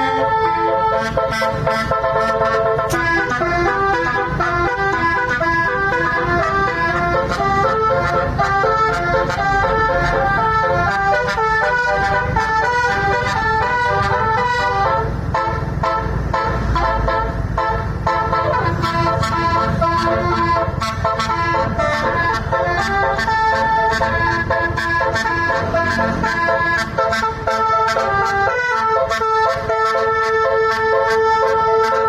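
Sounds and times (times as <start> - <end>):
bus horn playing melody: 0.0 - 32.0.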